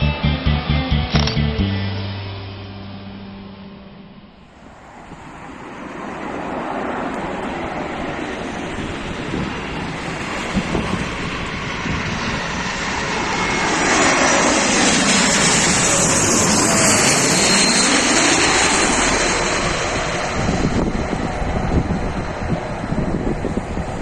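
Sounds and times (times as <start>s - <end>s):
high engine whine: 0.0s - 24.0s
jet engines on approach: 4.0s - 24.0s.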